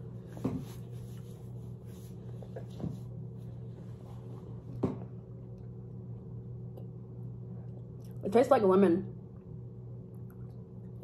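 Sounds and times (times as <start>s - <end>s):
low room tone hum: 0.0s - 11.0s.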